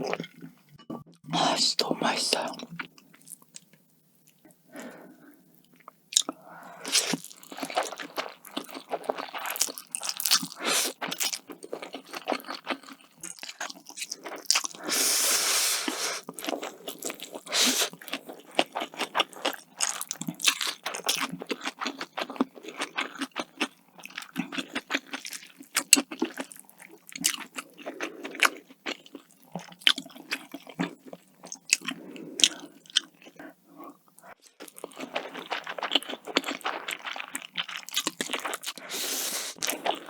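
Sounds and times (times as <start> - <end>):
chewing crunchy food: 2.4 - 15.1, 15.8 - 40.0.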